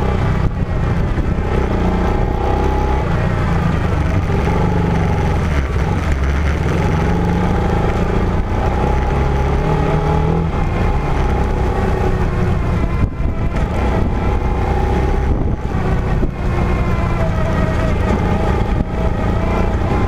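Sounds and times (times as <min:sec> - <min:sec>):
vehicle engine under load: 0:00.0 - 0:20.0.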